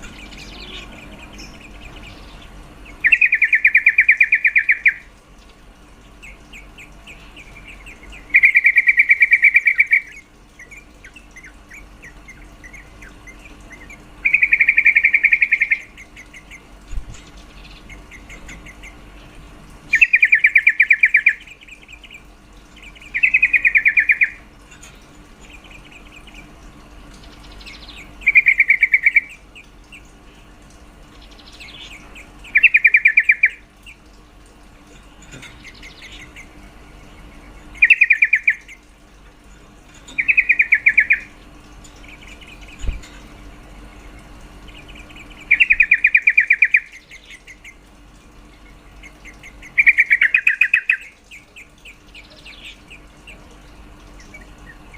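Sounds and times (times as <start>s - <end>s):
bird chattering trills: 0.0s - 34.2s, 34.8s - 54.9s.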